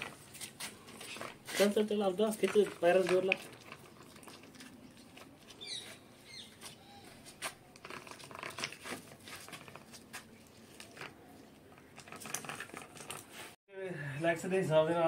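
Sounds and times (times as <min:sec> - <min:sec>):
paws and wheels on concrete: 0:00.0 - 0:13.6.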